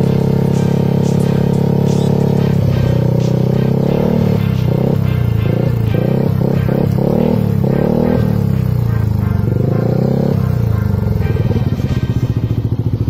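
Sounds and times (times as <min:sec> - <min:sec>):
scooter engine revving and idling: 0:00.0 - 0:13.0.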